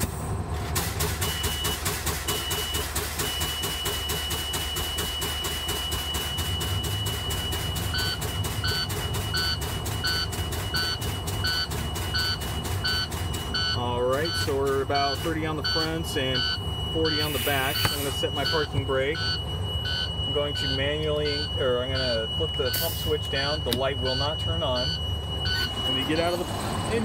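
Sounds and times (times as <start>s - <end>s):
diesel engine idling: 0.0s - 27.0s
low-air warning buzzer: 1.2s - 26.2s
dash alarm beeping: 1.2s - 27.0s.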